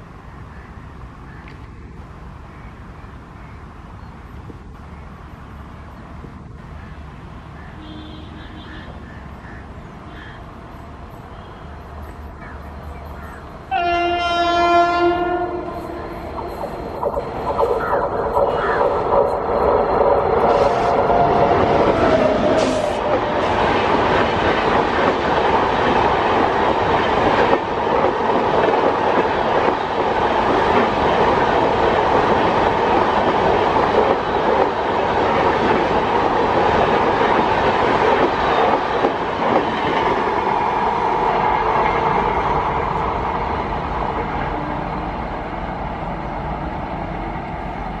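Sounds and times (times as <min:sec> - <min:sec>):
train rushing past: 0:08.5 - 0:48.0.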